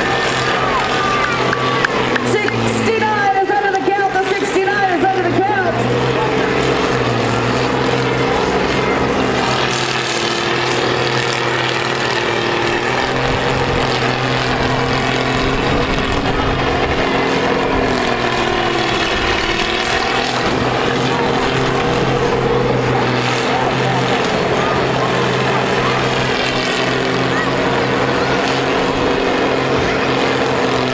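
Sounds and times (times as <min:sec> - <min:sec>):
combine harvester engines droning: 0:00.0 - 0:30.9.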